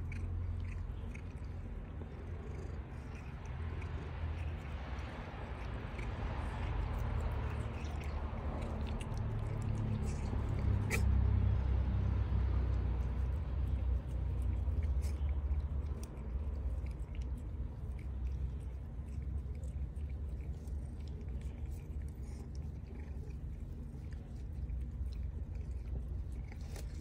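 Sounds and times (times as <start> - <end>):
cat chewing grass: 0.0 - 27.0
low steady rumble: 0.0 - 27.0.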